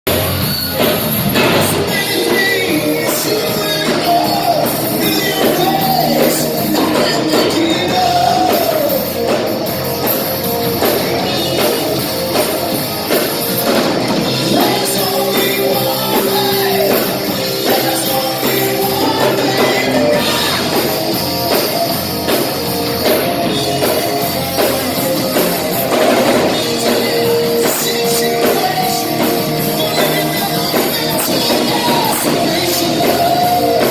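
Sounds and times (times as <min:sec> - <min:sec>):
rock music with singing: 0:00.0 - 0:33.9.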